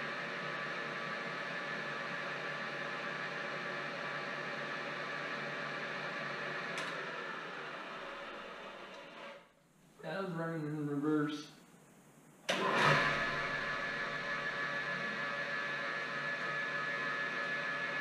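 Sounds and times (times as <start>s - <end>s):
milling machine motor humming: 0.0s - 9.4s, 12.5s - 18.0s.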